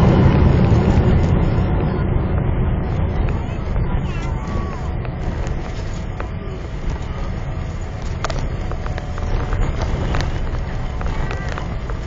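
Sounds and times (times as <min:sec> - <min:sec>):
low rumble of engines and wheels: 0:00.0 - 0:12.0.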